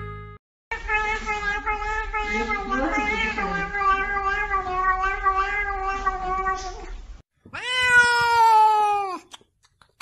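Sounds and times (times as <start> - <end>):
kitten meowing: 0.7 - 9.2
cat meowing loudly: 0.7 - 9.3.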